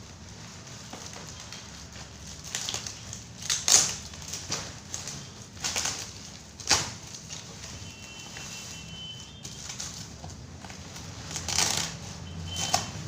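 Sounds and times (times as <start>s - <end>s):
cardboard packaging handled: 0.0s - 13.0s.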